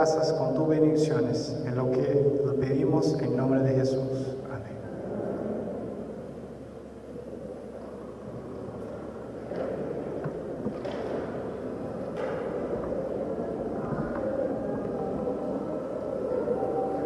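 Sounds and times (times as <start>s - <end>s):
congregation murmuring: 0.0s - 17.0s.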